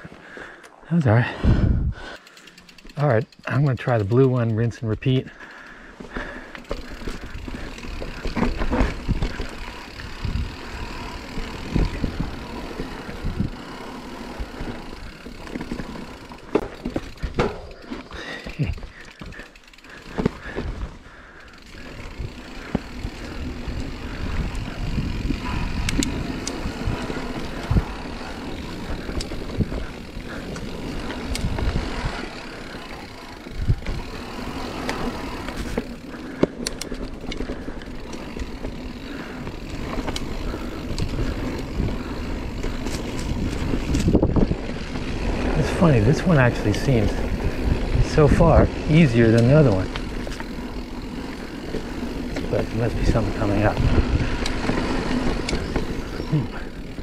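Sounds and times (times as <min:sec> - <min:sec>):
bike tyres rumbling over dirt: 0:00.0 - 0:57.0
bike clicks and knocks over bumps: 0:02.0 - 0:57.0.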